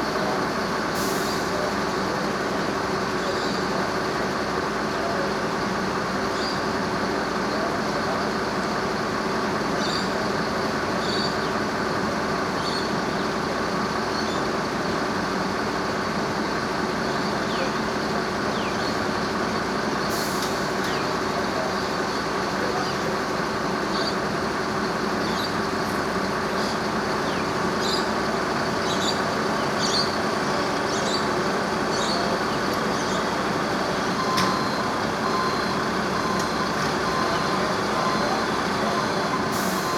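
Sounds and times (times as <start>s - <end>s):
heavy vehicle engine idling: 0.0s - 39.9s.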